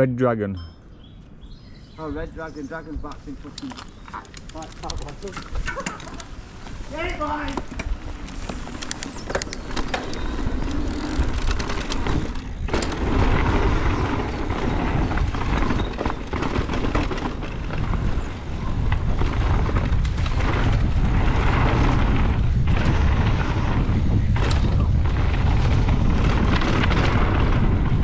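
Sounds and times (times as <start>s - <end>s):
wind buffeting microphone: 1.0s - 28.0s
bike clicks and rattles: 3.0s - 28.0s
tyre noise on dirt: 3.6s - 28.0s.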